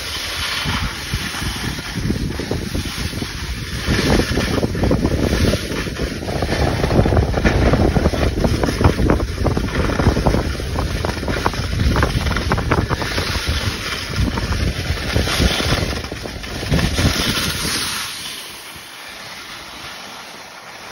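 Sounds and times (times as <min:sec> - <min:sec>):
wind on microphone: 0:00.0 - 0:18.9
skis scraping on snow: 0:00.0 - 0:20.9.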